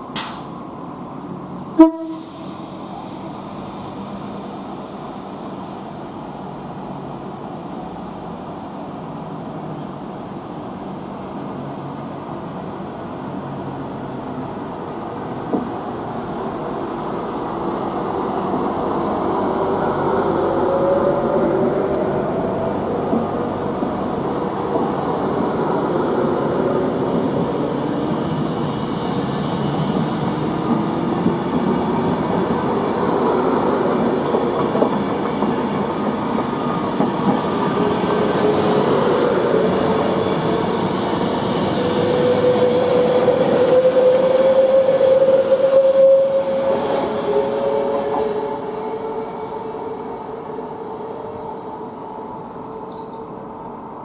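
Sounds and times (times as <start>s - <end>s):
train wheels on track: 0.0s - 54.0s.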